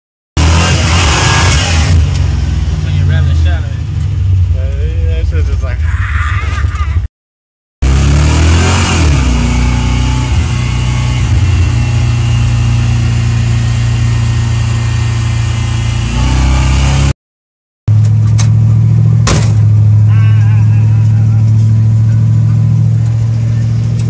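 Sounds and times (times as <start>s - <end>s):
car engine revving and running: 0.4s - 7.1s, 7.8s - 17.2s, 17.9s - 24.0s.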